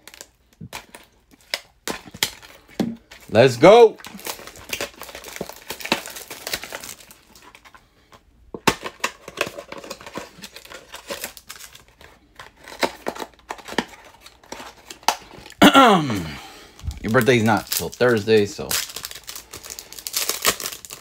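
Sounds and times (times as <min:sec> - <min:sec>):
foil wrapper crinkling and tearing: 0:00.0 - 0:08.0, 0:08.6 - 0:15.6, 0:16.2 - 0:21.0.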